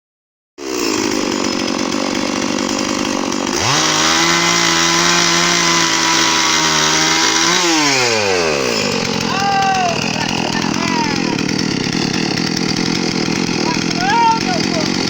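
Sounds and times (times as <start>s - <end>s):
electric drill running: 0.7s - 15.0s.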